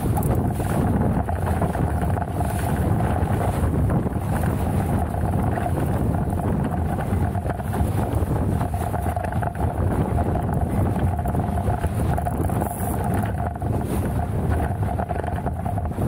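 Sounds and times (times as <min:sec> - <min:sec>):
mid-pitched hum: 0:00.0 - 0:16.0
strong wind buffeting microphone: 0:00.0 - 0:16.0.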